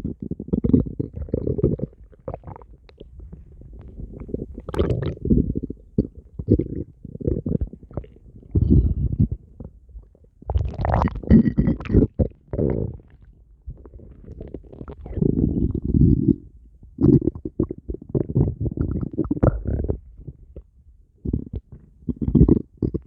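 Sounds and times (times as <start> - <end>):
stomach growling: 0.0 - 23.0.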